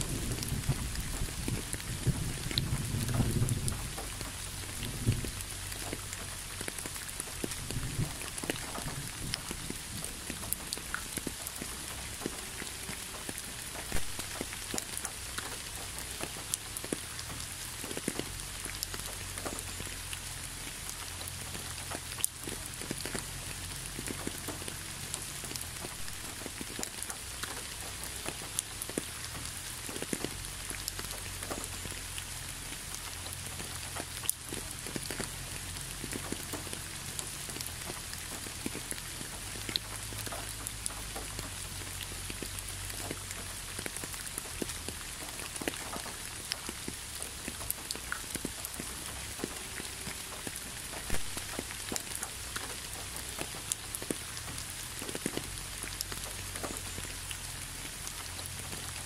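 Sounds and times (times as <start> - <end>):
gentle rain hiss: 0.0 - 59.0
raindrops ticking: 0.0 - 59.0.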